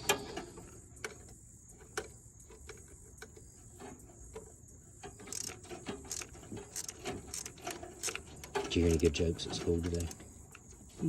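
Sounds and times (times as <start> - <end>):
hand tools clicking and tapping: 0.0 - 10.9.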